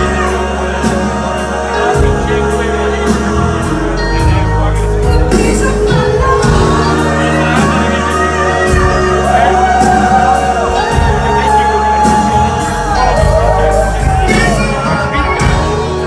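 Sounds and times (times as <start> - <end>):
bass guitar: 0.0 - 16.0
man singing: 0.0 - 16.0.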